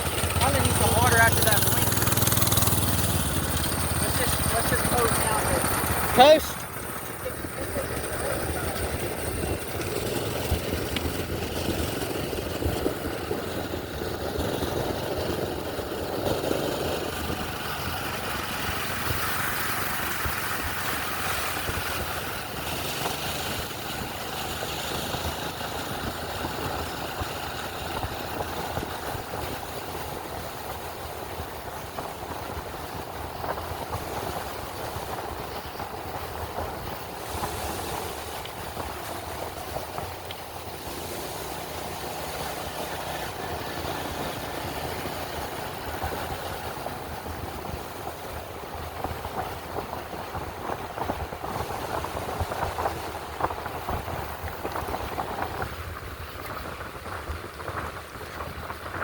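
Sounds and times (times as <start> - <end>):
small engine running: 0.0 - 50.4
rolling noise: 0.0 - 59.0.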